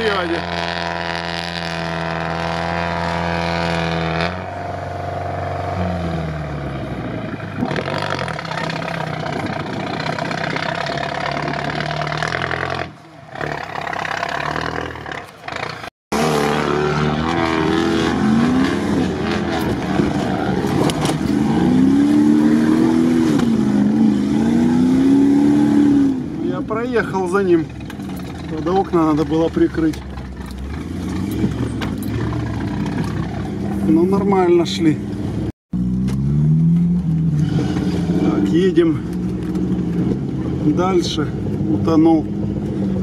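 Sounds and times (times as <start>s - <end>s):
truck engine under load: 0.1s - 38.4s.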